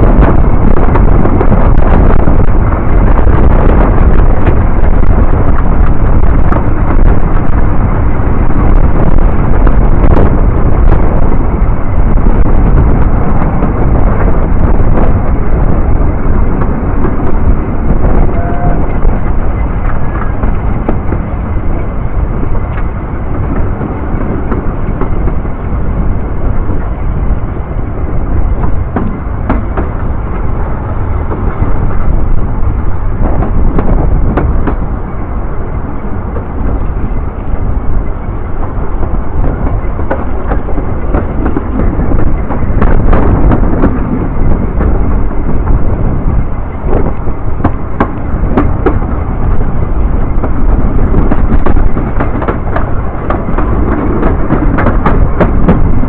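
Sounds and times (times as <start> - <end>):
wheels clicking over rail joints: 0.0 - 35.0, 36.0 - 56.0
train rumbling: 0.0 - 56.0
wind buffeting microphone: 0.0 - 56.0.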